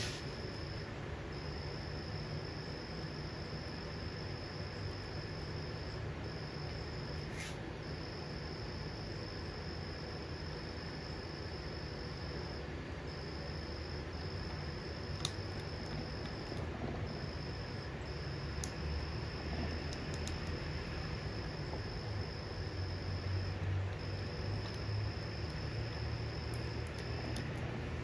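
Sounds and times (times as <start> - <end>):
cricket trilling: 0.0 - 28.0.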